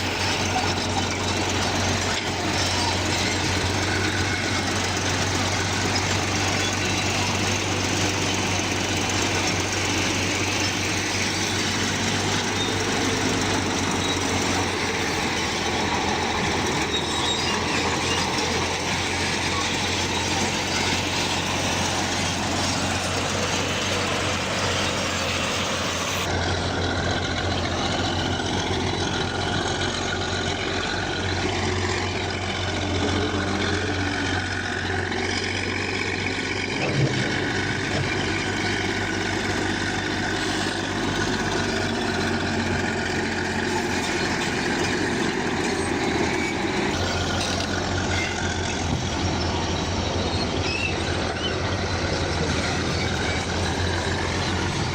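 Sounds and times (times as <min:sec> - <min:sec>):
diesel engine drone: 0:00.0 - 0:54.9
metallic working noise: 0:00.0 - 0:54.9.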